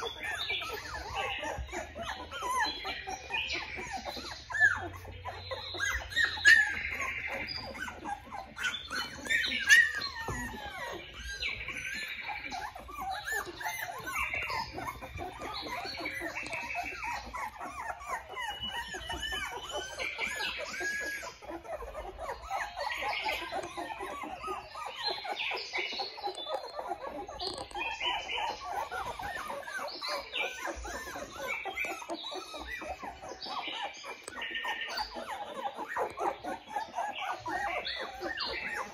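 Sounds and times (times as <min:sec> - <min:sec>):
puppies whining and squeaking: 0:00.0 - 0:38.9
puppy yelps: 0:00.0 - 0:38.9.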